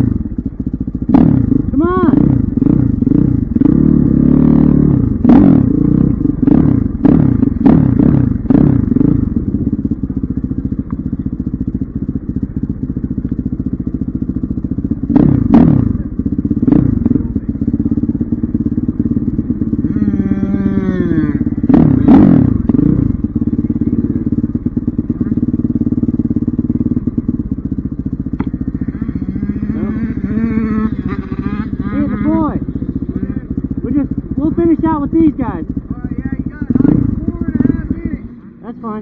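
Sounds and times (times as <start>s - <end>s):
dirt bike engine revving: 1.0s - 10.4s, 14.2s - 39.0s.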